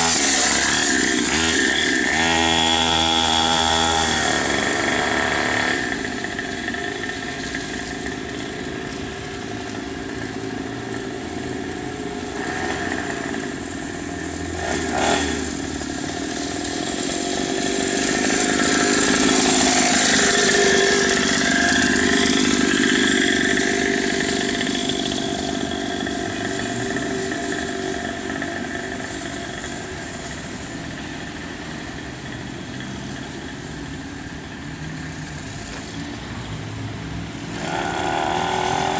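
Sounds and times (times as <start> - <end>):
mini motocross bike engine: 0.0 - 38.9.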